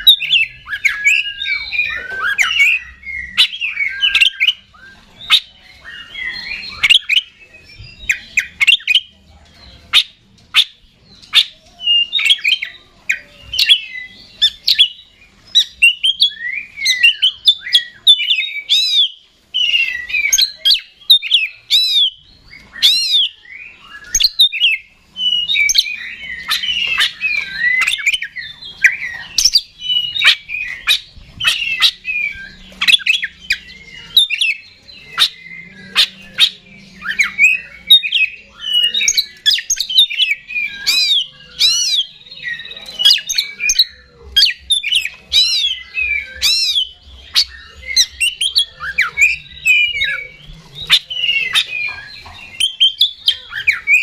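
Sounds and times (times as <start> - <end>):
bird singing whistles and warbles: 0.0 - 54.0.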